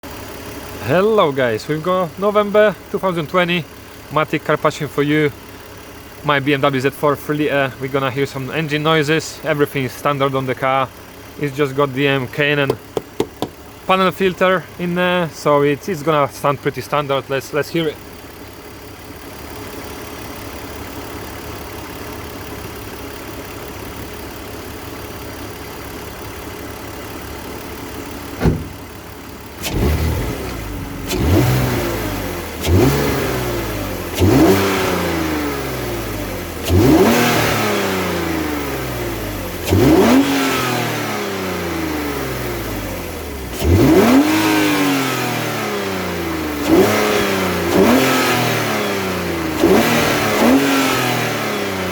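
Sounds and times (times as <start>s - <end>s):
car engine idling and revving: 0.0s - 51.9s.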